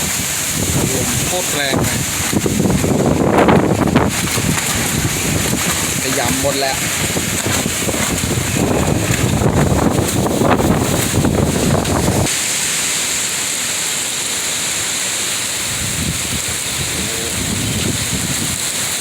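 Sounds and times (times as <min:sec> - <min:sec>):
wind buffeting microphone: 0:00.0 - 0:12.3, 0:15.6 - 0:19.0
hiss of wind: 0:00.0 - 0:19.0.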